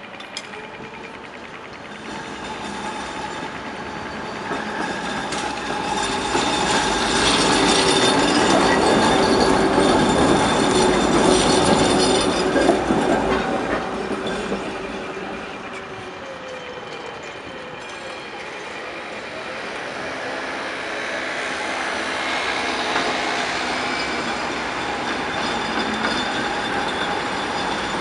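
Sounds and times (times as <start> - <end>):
tram wheels rattling over rails: 0.0 - 28.0
tram whine: 0.0 - 28.0.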